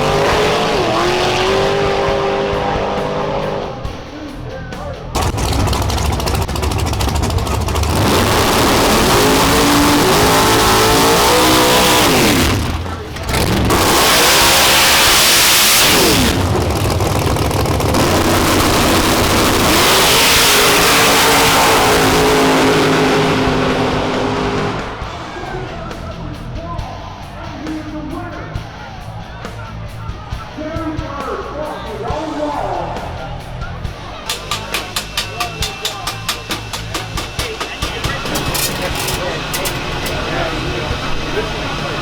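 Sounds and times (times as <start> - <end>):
drag racing engines at full throttle: 0.0 - 42.0.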